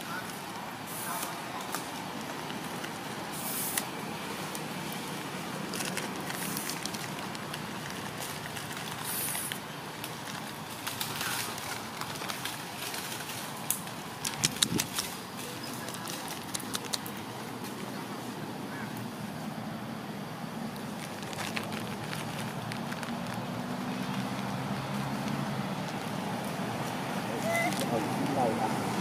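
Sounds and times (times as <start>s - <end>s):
leaves and twigs rustling: 0.0s - 19.6s, 20.3s - 29.0s.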